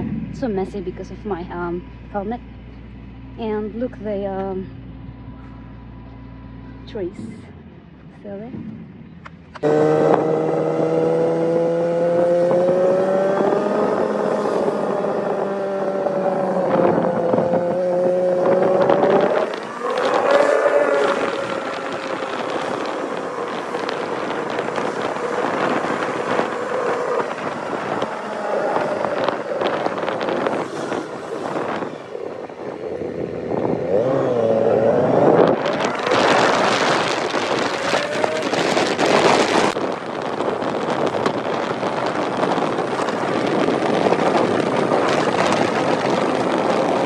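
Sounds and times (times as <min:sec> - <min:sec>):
wind noise on microphone: 0:00.0 - 0:05.8, 0:06.7 - 0:47.0
motorcycle engine running: 0:00.0 - 0:47.0.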